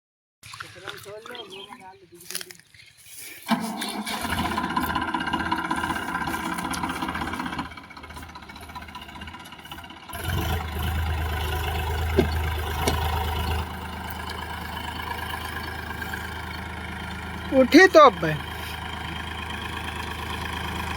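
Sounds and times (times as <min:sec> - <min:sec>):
tractor diesel engine running: 0:02.2 - 0:20.9.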